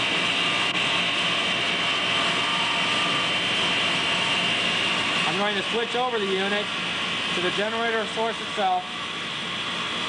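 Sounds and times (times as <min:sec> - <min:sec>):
motor generator hum and whine: 0:00.0 - 0:10.0.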